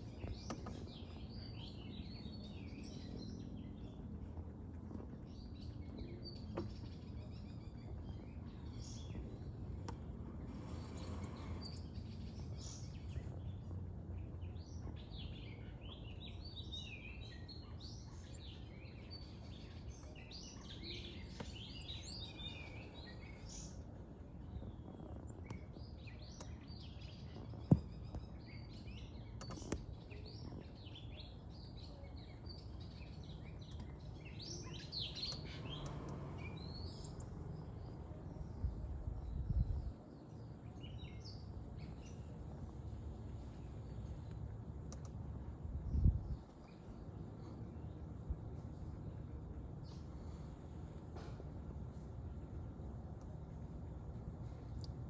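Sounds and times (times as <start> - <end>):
low steady rumble: 0.0 - 55.0
small birds chirping: 0.0 - 55.0.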